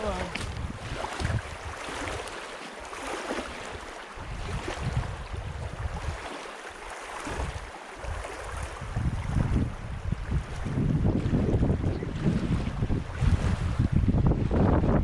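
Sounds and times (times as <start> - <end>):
wind buffeting the microphone: 0.0 - 2.4, 3.6 - 6.3, 7.2 - 15.0
rushing water: 0.0 - 15.0.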